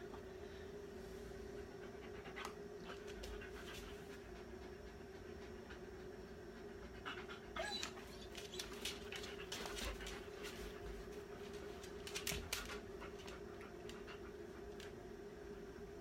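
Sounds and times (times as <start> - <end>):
steady low hum: 0.0 - 16.0
dog panting: 1.5 - 14.7.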